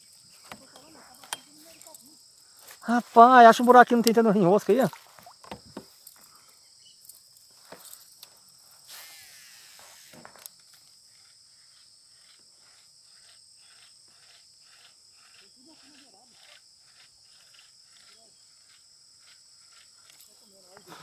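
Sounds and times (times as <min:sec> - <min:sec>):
high-pitched insect drone: 0:00.0 - 0:21.0
rhythmic insect chirp: 0:00.0 - 0:21.0.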